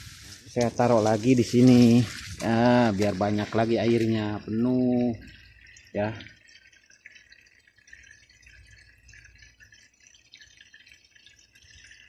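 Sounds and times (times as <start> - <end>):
water trickling from a hose: 0.0 - 12.0.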